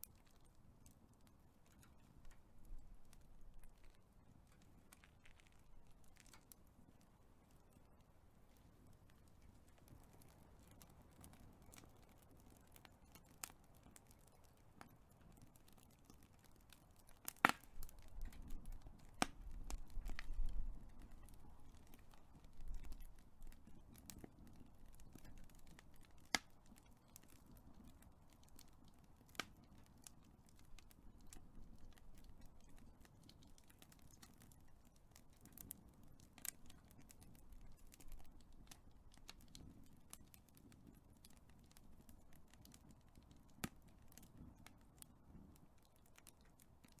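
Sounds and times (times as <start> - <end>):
low rumble of flames: 0.0 - 47.0
wood fire crackling: 0.0 - 47.0.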